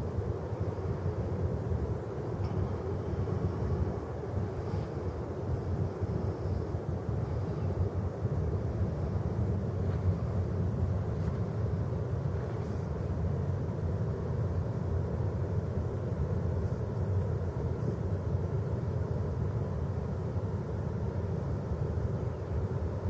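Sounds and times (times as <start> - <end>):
low rumbling beach background: 0.0 - 23.0.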